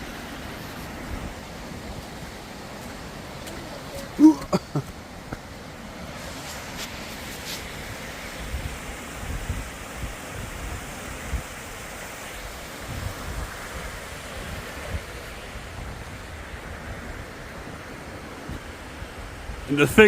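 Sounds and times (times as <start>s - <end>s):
wind blowing on microphone: 0.0s - 3.0s, 3.6s - 20.0s.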